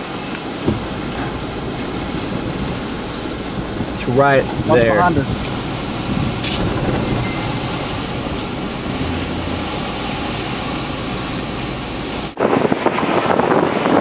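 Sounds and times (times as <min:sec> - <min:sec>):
road noise inside vehicle: 0:00.0 - 0:14.0
wind buffeting microphone: 0:00.0 - 0:14.0.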